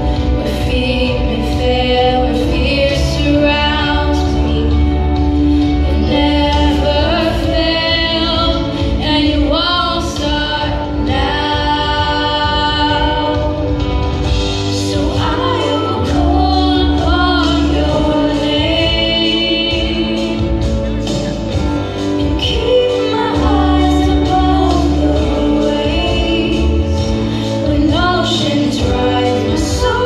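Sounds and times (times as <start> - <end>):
deep bass accompaniment: 0.0 - 30.0
person singing: 0.0 - 30.0.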